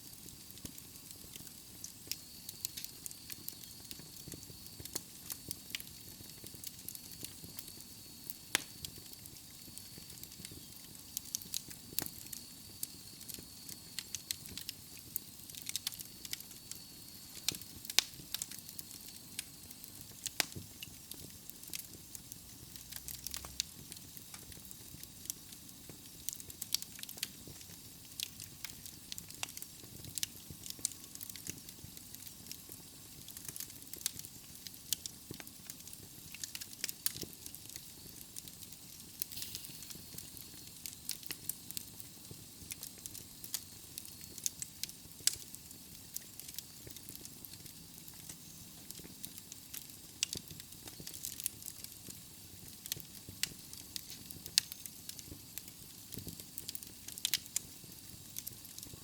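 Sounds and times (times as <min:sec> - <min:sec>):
fire hissing: 0:00.0 - 0:59.0
wood fire crackling and popping: 0:00.0 - 0:59.0.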